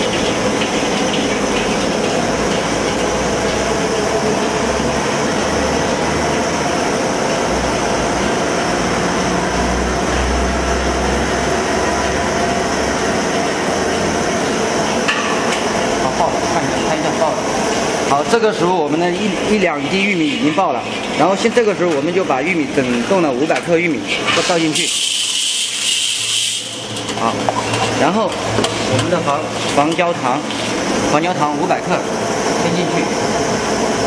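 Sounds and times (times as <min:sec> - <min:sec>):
popcorn kettle rumble and hiss: 0:00.0 - 0:34.0.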